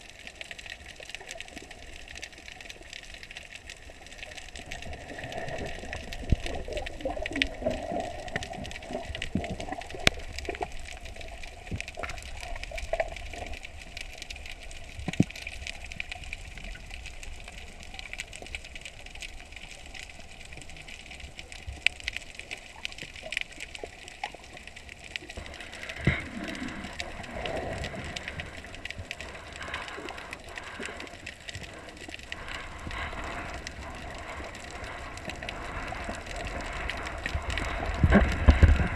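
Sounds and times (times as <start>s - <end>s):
muffled underwater water noise: 0.0s - 38.9s
sharp clicks and crackles: 0.0s - 38.9s
water gurgling: 0.0s - 38.9s.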